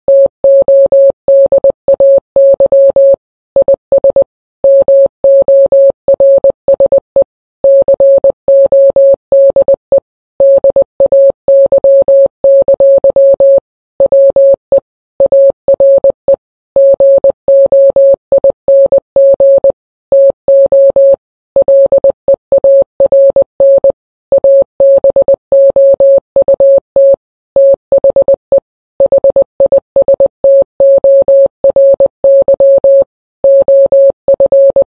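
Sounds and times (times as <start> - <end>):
morse code beeps: 0.1 - 34.9.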